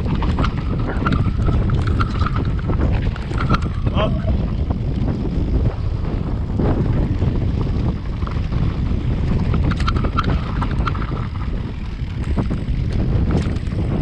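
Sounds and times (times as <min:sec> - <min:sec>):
bike clattering over stones: 0:00.0 - 0:05.6, 0:06.8 - 0:14.0
bike rolling low rumble: 0:00.0 - 0:14.0
wind buffeting microphone: 0:00.0 - 0:14.0.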